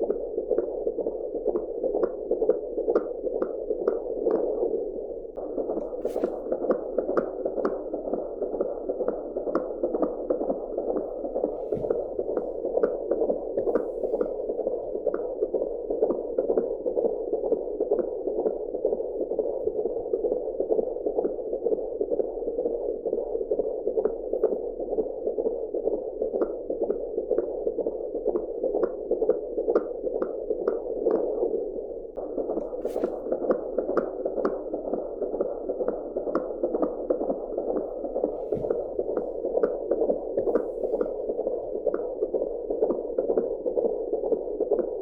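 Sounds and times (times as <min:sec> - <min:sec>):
fast pulsing heartbeat: 0:00.0 - 0:45.0.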